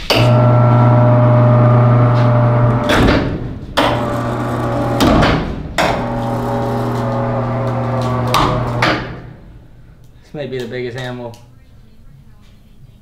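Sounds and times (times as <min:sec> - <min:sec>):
electric hoist humming: 0:00.0 - 0:13.0.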